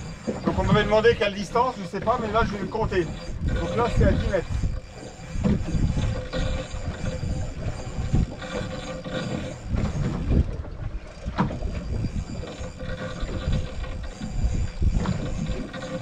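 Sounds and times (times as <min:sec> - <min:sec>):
fishing reel ticking: 0:00.0 - 0:16.0
wind and sea rumble: 0:00.0 - 0:16.0.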